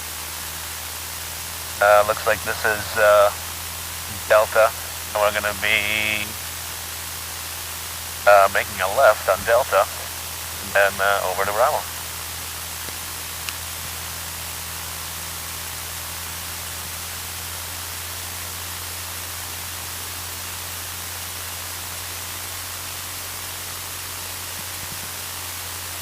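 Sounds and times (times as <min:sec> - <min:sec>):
aircraft engine hum through headset: 0:00.0 - 0:22.5
steady hiss: 0:00.0 - 0:26.0.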